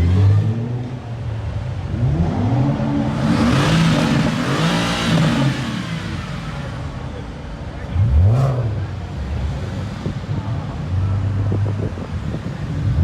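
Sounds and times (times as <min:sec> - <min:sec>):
car engine revving: 0:01.8 - 0:13.0.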